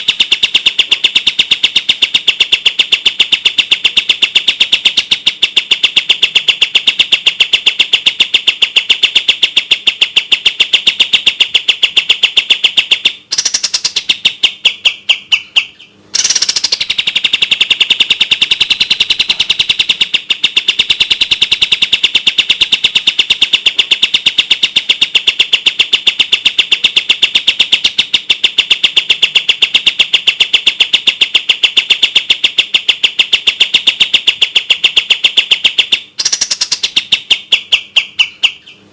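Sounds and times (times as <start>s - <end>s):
songbird high repeated notes: 0.0s - 38.8s.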